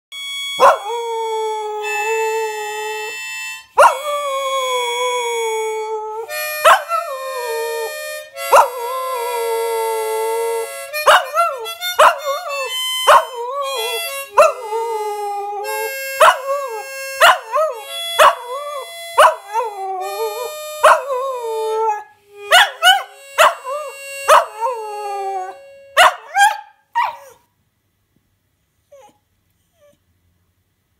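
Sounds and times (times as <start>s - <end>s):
harmonica held notes: 0.1s - 26.8s
puppy howling: 0.6s - 3.2s, 3.8s - 27.4s.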